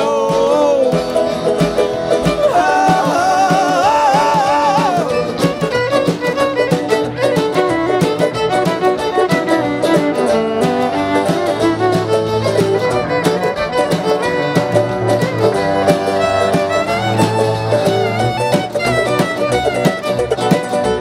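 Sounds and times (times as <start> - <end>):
bluegrass string band playing: 0.0 - 21.0
fiddle: 0.0 - 21.0.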